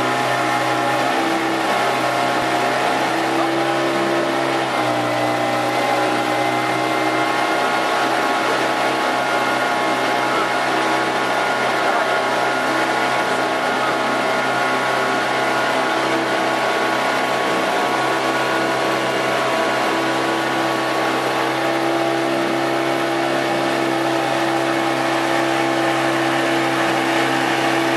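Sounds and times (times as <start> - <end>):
outboard motor droning: 0.0 - 27.9.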